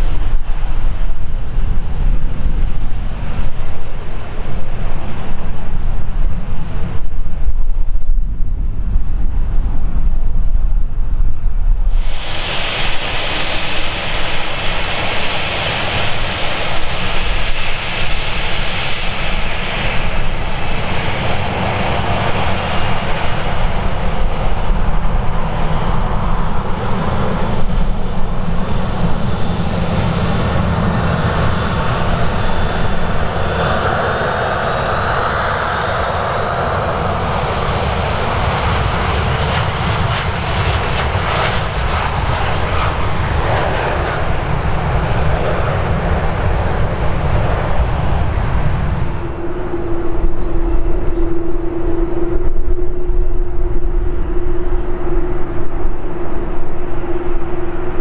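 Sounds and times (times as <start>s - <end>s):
jet engines at takeoff: 0.0s - 58.0s
wind buffeting microphone: 0.0s - 58.0s.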